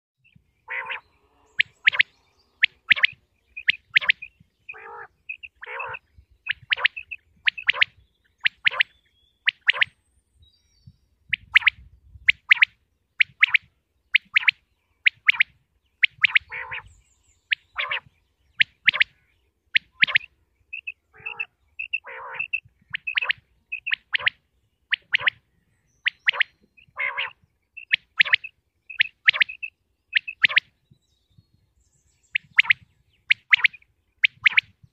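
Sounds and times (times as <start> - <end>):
quail calling: 0.6 - 9.9, 11.3 - 16.9, 17.5 - 25.4, 26.0 - 30.7, 32.3 - 34.7.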